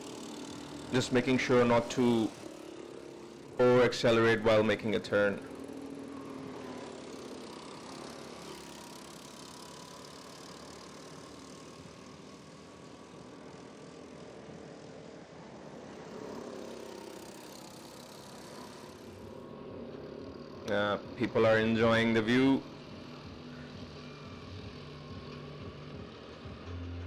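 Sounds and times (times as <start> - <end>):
go-kart engines running: 0.0 - 27.0.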